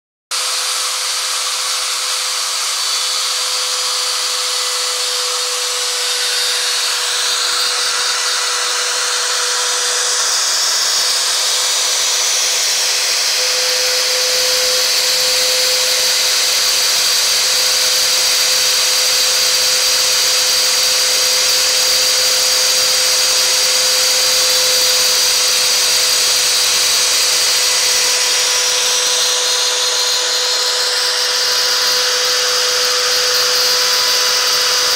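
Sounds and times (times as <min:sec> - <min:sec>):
router motor whine: 0:00.3 - 0:34.9.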